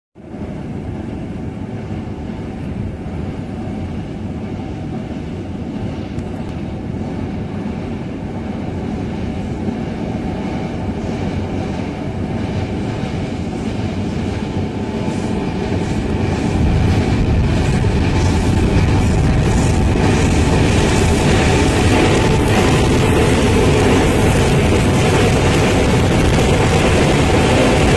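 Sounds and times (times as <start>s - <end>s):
train rumbling over bridge: 0.2s - 27.9s.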